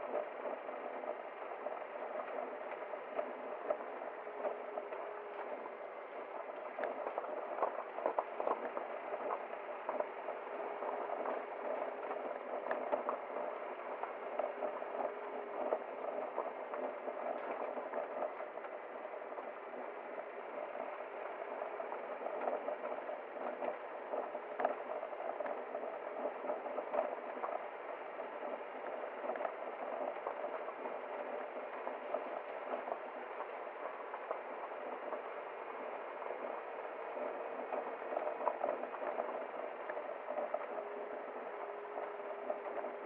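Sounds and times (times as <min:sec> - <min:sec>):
bubbling babbling water: 0:00.0 - 0:43.0.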